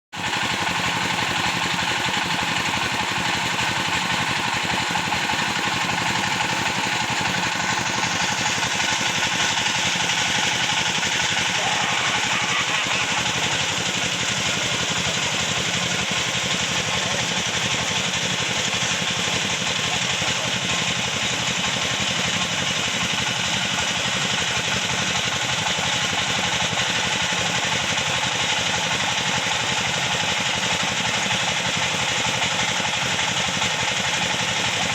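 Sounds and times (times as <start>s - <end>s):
sawmill machinery running: 0.2s - 34.9s.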